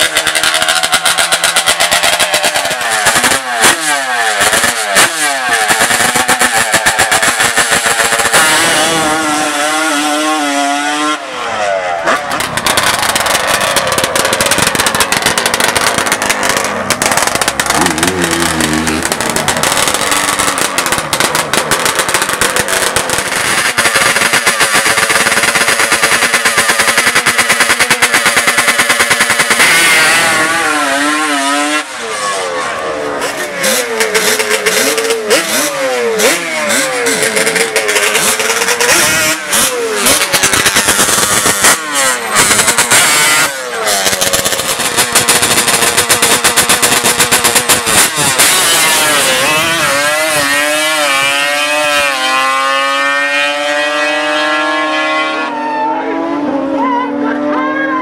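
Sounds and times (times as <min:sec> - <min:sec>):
racing engines revving: 0:00.0 - 0:58.0.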